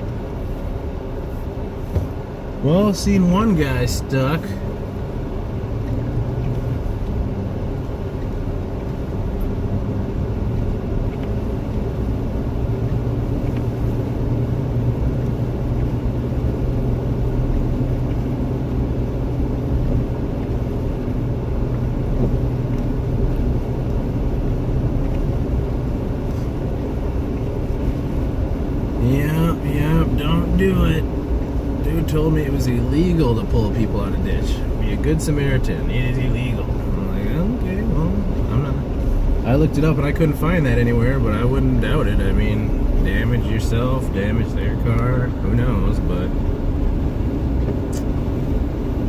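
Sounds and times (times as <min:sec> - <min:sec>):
engine hum: 0:00.0 - 0:49.0
road and tyre noise: 0:00.0 - 0:49.0.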